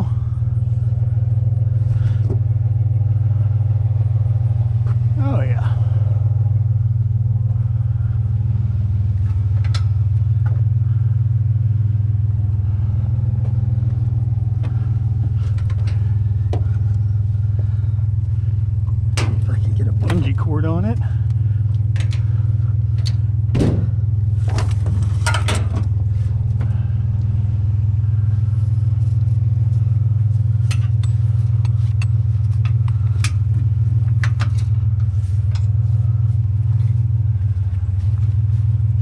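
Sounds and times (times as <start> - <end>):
road noise: 0.0 - 39.0
truck engine drone: 0.0 - 39.0.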